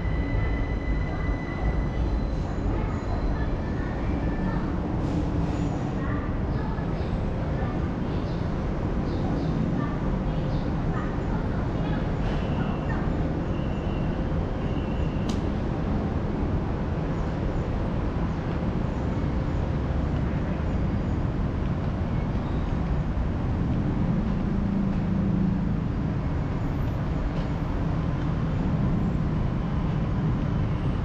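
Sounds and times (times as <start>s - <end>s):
vehicle low rumble: 0.0s - 31.0s.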